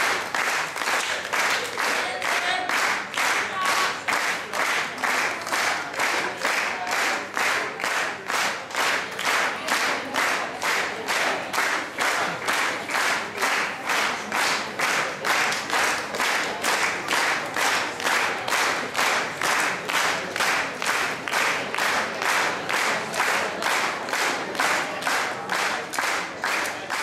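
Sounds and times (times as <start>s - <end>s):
crowd clapping in unison: 0.0s - 27.0s.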